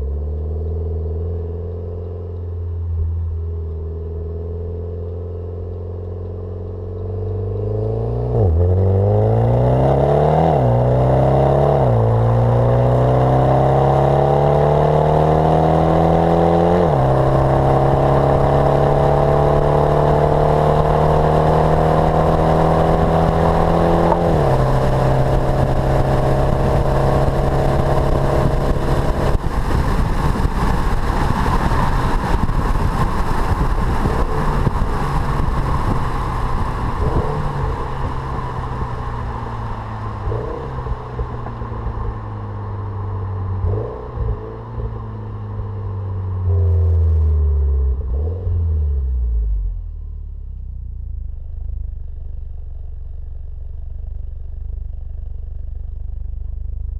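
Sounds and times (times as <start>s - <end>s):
car engine accelerating: 0.0s - 56.9s
engine rumbling: 0.0s - 56.9s.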